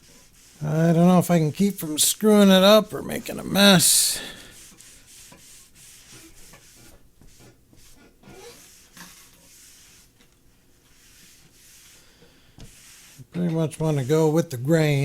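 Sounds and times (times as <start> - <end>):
sponge rubbing on wood: 0.0 - 14.4.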